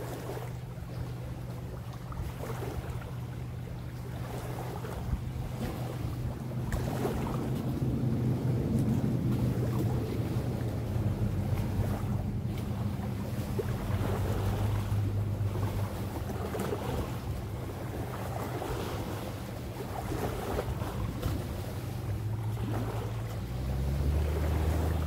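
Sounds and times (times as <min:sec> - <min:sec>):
distant engine hum: 0:00.0 - 0:25.0
small waves lapping at shore: 0:00.0 - 0:25.0
wind: 0:00.0 - 0:25.0.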